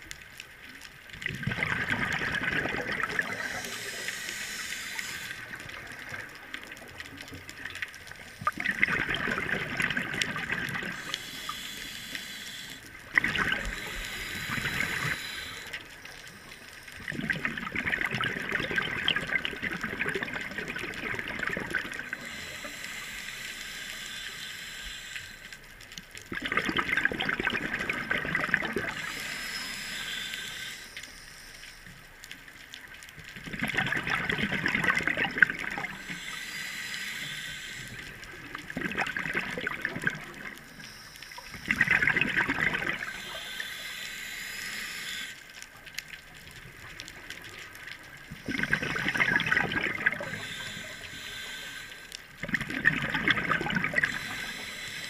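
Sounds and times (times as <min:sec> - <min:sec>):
exhaled bubbles underwater: 0:00.7 - 0:25.4, 0:26.2 - 0:31.2, 0:32.6 - 0:55.0.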